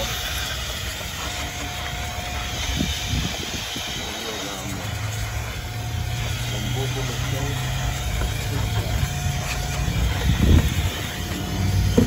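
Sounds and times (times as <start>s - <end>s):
handheld blower running: 0.0s - 12.0s.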